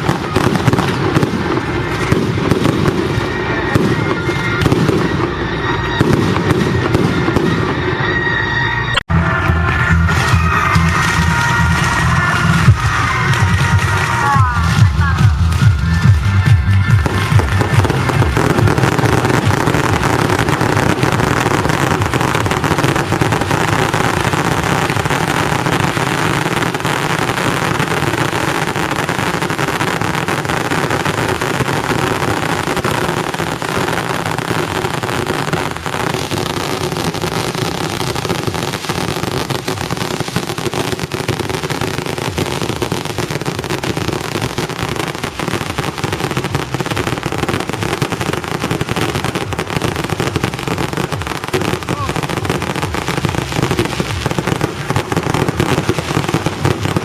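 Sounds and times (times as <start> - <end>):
fireworks and firecrackers crackling: 0.0 - 57.0.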